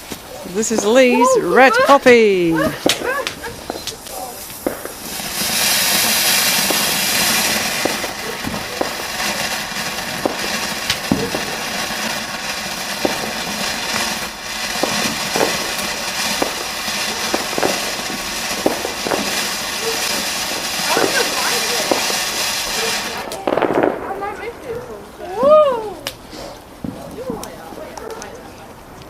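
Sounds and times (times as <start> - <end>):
firework fountain hissing and crackling: 0.0 - 29.0.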